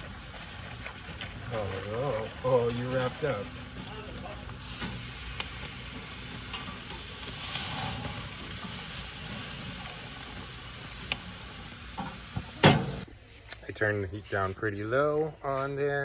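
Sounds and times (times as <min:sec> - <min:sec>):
gas grill sizzling: 0:00.0 - 0:13.1.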